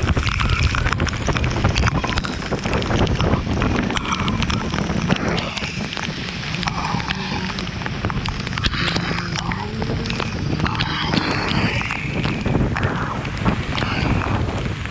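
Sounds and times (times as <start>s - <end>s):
sharp ticks of rain: 0.0s - 14.9s
wind rushing over microphone: 0.0s - 14.9s.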